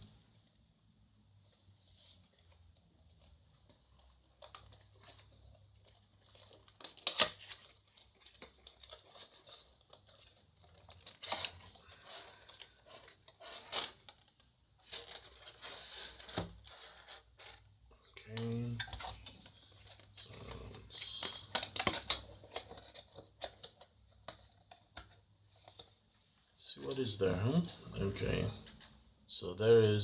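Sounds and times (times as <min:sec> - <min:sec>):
cardboard and plastic rustling: 0:01.3 - 0:26.4.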